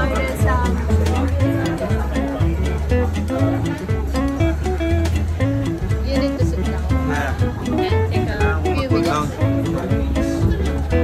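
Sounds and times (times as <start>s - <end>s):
guitar music: 0.0s - 11.0s
steady bass line: 0.0s - 11.0s.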